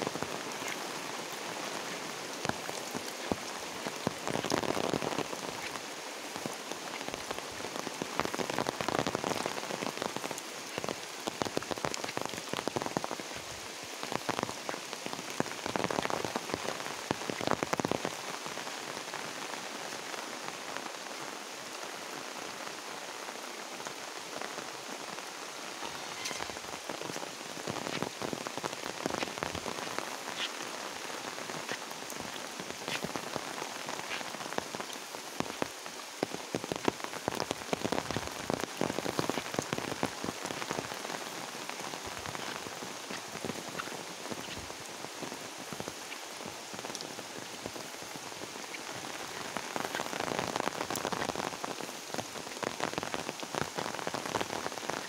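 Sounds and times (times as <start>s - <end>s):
close raindrop hits: 0.0s - 20.2s, 24.2s - 55.0s
rain falling on water and paving: 0.0s - 55.0s.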